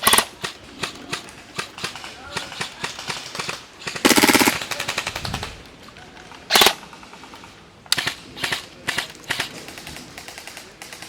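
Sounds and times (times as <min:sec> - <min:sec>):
airsoft rifles firing bursts: 0:00.0 - 0:05.6, 0:06.5 - 0:11.0.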